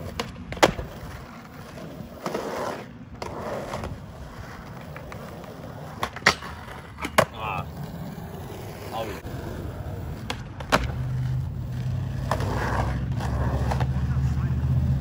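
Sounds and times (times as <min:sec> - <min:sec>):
skateboard cracking: 0:00.0 - 0:14.0
skateboard wheels rolling on concrete: 0:00.0 - 0:15.0.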